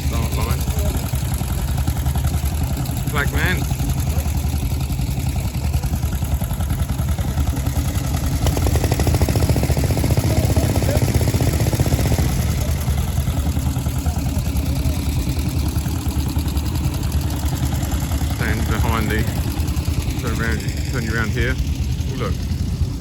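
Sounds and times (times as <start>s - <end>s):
motorcycle engine firing beat: 0.0s - 23.0s.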